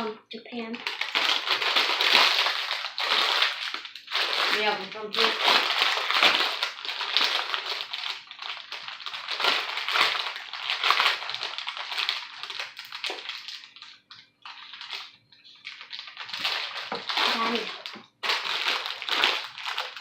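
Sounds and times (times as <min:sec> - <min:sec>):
snack bag crackling: 0:00.8 - 0:20.0.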